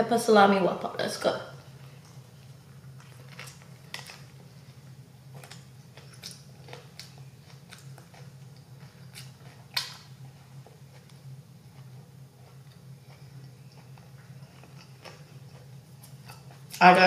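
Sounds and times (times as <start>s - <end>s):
person chewing food: 1.8s - 16.8s.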